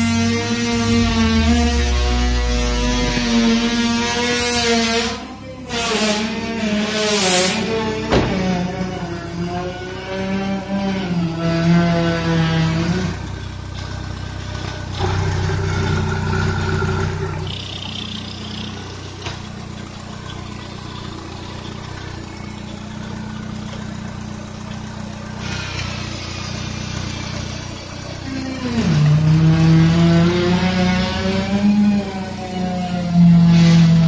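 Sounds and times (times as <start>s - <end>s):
car engine idling and revving: 0.0s - 34.0s.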